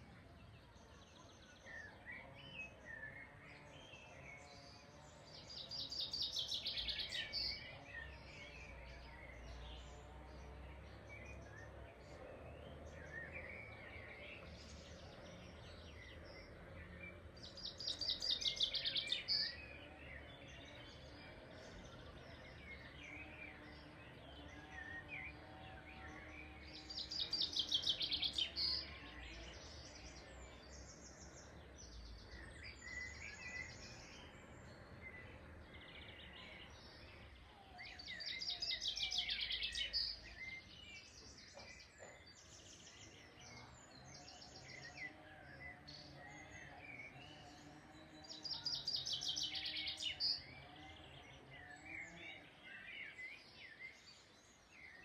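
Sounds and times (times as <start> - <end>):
bird singing a rapid trill: 0.0 - 55.0
birds chirping: 0.0 - 55.0.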